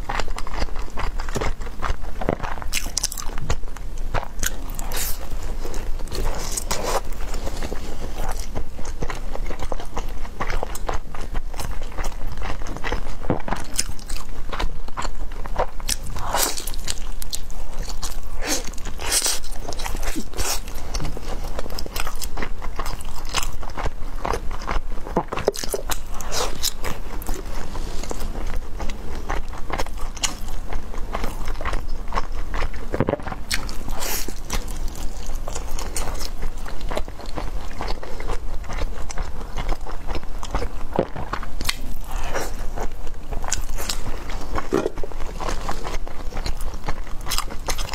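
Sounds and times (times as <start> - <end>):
chewing with wet mouth smacks: 0.0 - 47.9.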